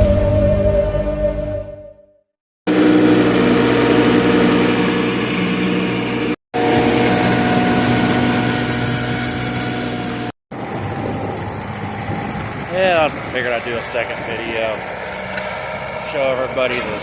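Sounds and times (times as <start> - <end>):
tractor engine running: 2.7 - 17.0.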